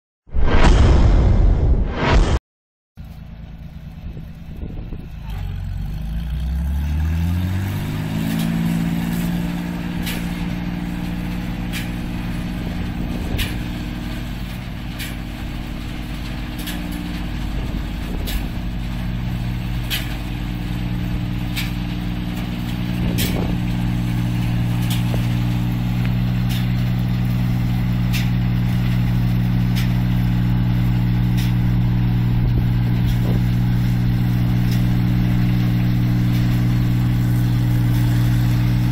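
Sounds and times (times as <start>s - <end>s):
diesel engine revving: 3.5s - 38.9s.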